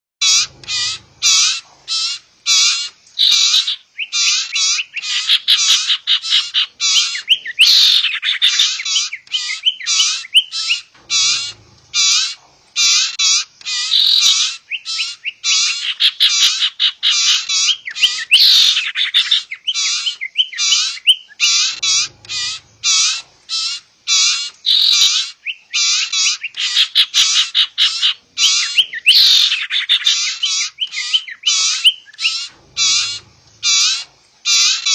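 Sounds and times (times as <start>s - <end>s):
bird calls: 0.2s - 34.9s
young birds begging calls: 0.2s - 34.9s.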